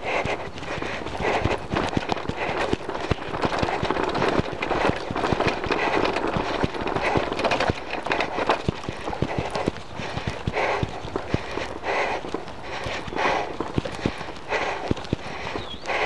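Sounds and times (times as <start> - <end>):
bike tyres rumbling on dirt: 0.0 - 16.0
bike knocking over bumps: 0.2 - 15.7.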